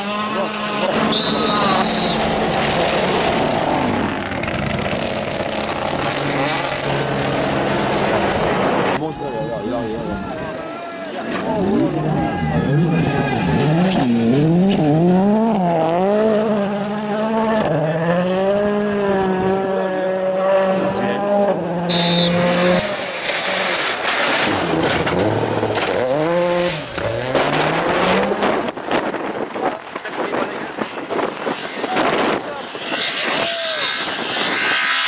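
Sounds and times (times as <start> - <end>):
rally car engine revving: 0.0 - 9.0, 11.2 - 35.0.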